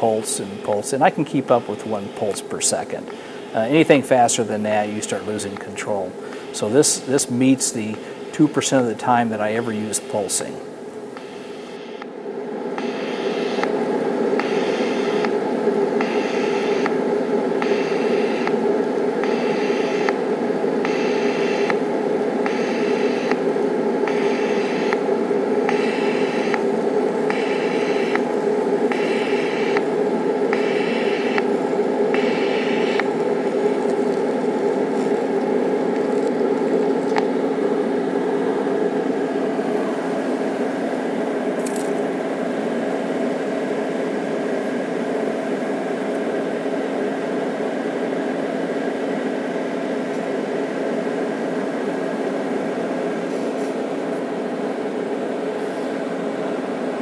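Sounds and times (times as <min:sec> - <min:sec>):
pulsing welding arc hiss: 0:00.0 - 0:48.8
steady hum and hiss: 0:00.0 - 0:57.0.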